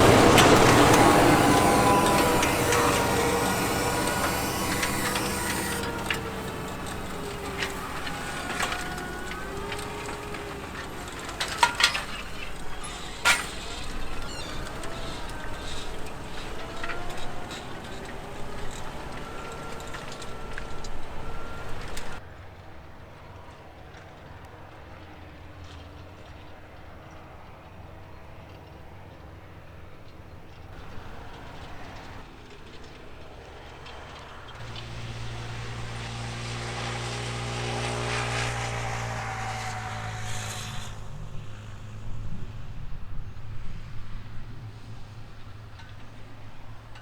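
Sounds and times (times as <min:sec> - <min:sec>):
tractor engines under load: 0:00.0 - 0:22.2, 0:30.8 - 0:47.0.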